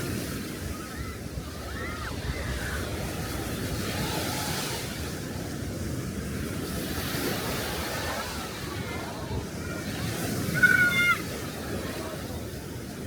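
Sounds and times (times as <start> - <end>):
small waves washing onto beach: 0.0 - 13.0
wind rumbling on microphone: 0.0 - 13.0.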